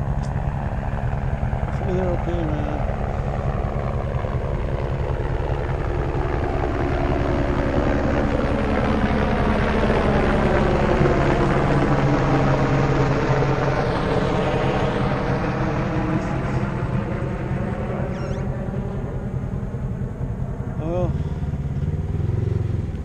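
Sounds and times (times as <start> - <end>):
helicopter flying overhead: 0.0 - 23.0.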